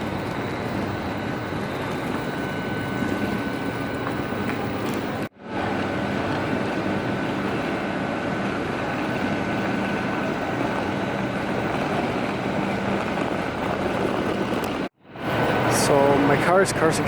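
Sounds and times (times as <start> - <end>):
train high whine: 0.0 - 17.0
train low hum: 0.0 - 17.0.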